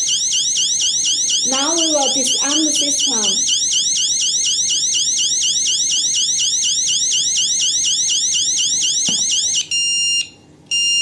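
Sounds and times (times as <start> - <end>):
alarm siren wailing: 0.0 - 11.0.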